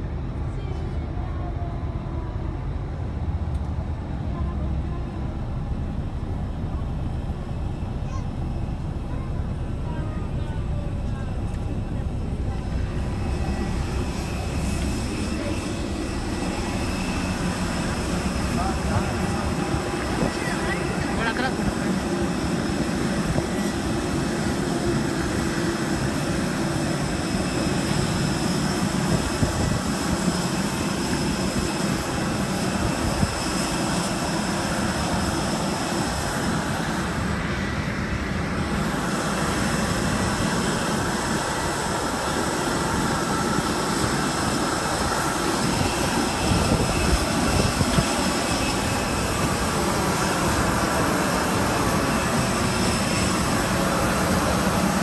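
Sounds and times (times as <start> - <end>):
jet engine rumble and whine: 0.0 - 55.0.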